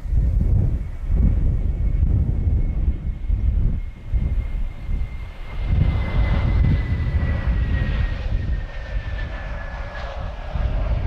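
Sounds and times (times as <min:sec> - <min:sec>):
airliner engines whining: 0:00.0 - 0:11.0
wind on microphone: 0:00.0 - 0:11.0.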